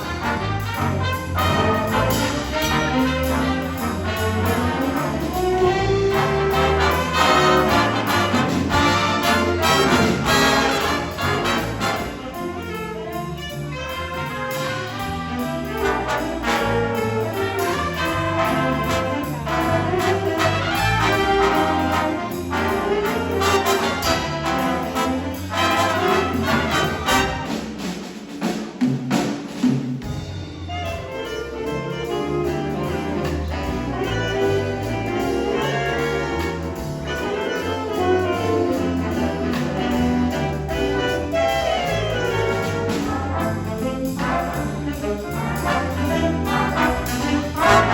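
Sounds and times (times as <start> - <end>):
big band playing jazz: 0.0 - 47.9.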